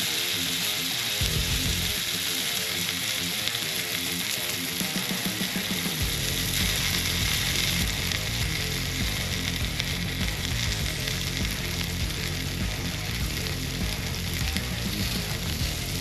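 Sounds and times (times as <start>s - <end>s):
fish sizzling in hot oil: 0.0s - 16.0s
background music: 1.0s - 16.0s.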